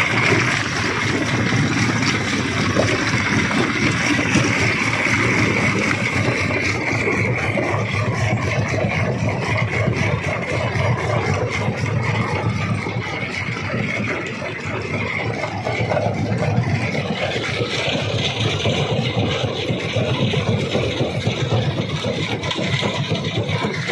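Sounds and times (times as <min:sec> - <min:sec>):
stone crusher rumble and whine: 0:00.0 - 0:23.9.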